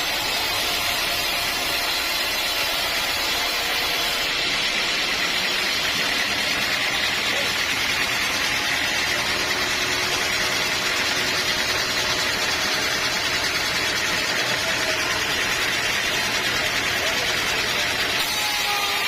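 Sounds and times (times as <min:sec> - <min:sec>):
bandsaw sawmill running: 0:00.0 - 0:19.0.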